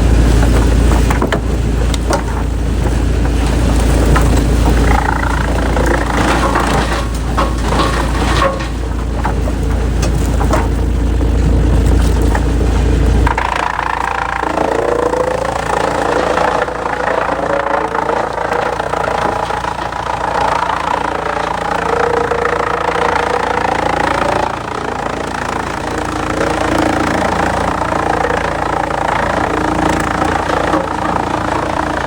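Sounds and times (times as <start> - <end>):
heavy machinery engine drone: 0.0 - 32.0.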